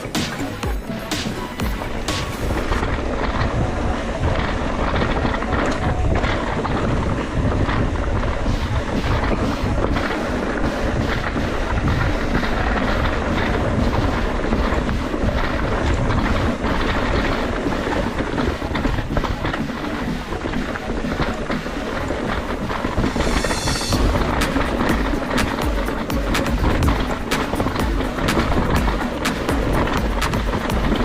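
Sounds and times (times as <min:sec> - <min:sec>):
bike rattling over rough trail: 0:00.0 - 0:31.0
wind buffeting microphone: 0:00.0 - 0:31.0.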